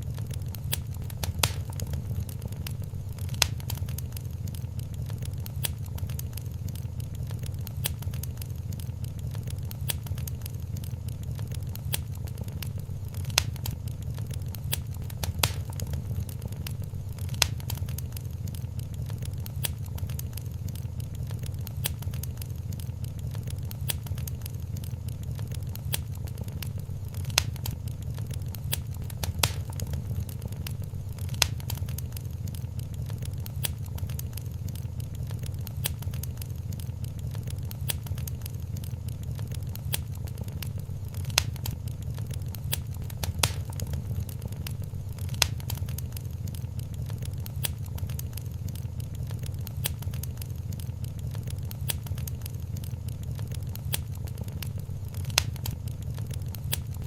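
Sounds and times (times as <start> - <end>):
loud sharp pops of fire: 0.0 - 57.0
wood fire crackling: 0.0 - 57.0.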